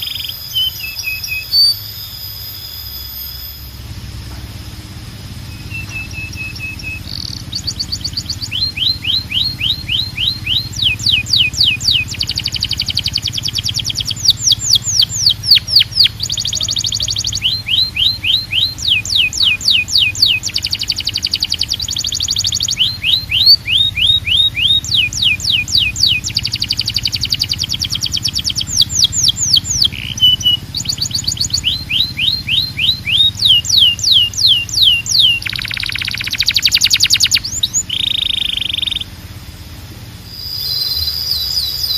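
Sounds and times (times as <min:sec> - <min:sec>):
canary singing: 0:00.0 - 0:39.5, 0:40.2 - 0:41.9.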